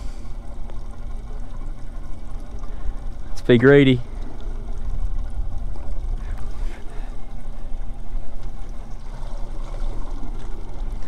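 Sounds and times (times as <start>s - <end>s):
boat engine rumble: 0.0s - 11.0s
water sloshing against hull: 0.0s - 11.0s.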